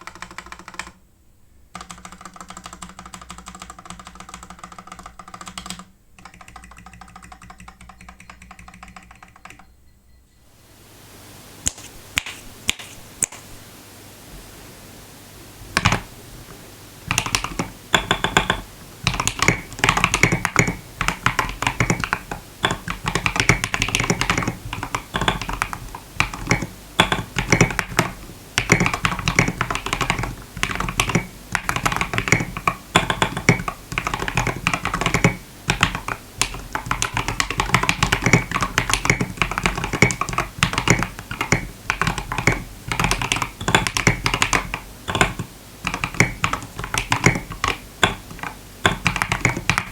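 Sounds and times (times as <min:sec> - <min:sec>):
mechanical keyboard keystroke clicks: 0:00.0 - 0:01.0, 0:01.8 - 0:09.7, 0:15.8 - 0:16.1, 0:17.1 - 0:49.9.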